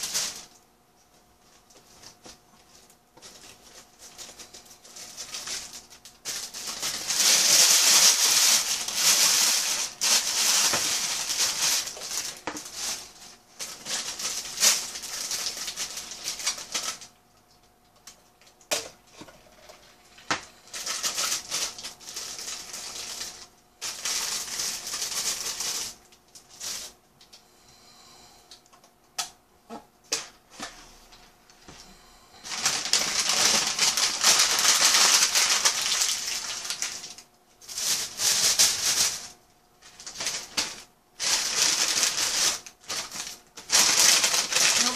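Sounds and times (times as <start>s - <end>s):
plastic bag and paper rustling: 0.0s - 27.0s, 30.1s - 44.9s.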